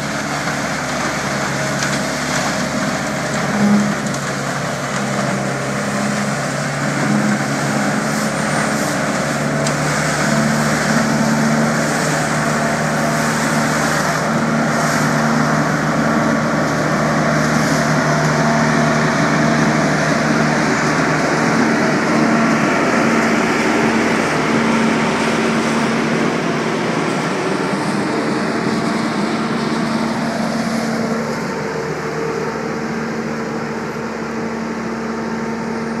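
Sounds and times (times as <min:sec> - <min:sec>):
leaf vacuum engine droning: 0:00.0 - 0:36.0.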